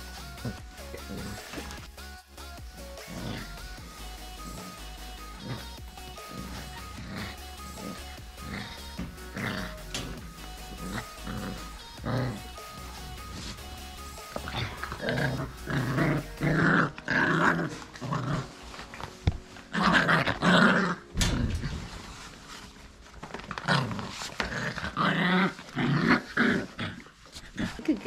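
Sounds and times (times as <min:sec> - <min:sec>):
puppies play growling: 0:00.0 - 0:28.0.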